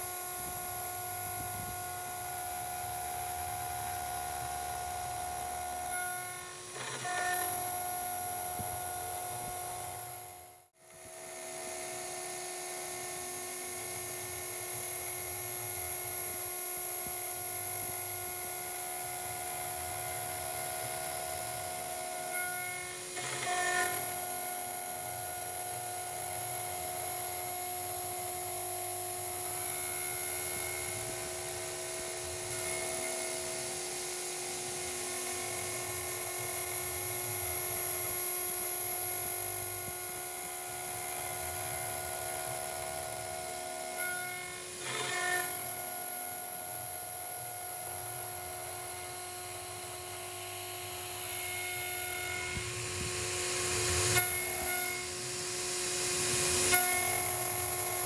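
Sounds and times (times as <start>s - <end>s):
cnc router spindle whine: 0.0s - 58.0s.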